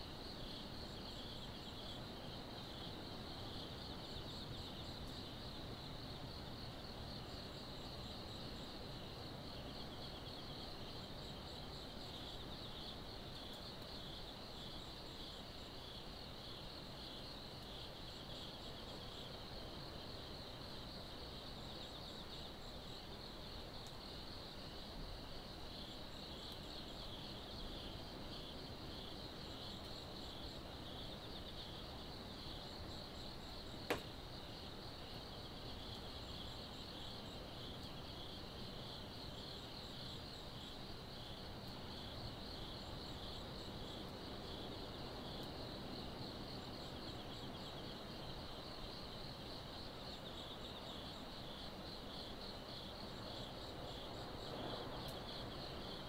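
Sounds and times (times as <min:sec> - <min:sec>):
faint high insect chirping: 0:00.0 - 0:56.0
night insects trilling: 0:00.0 - 0:56.0.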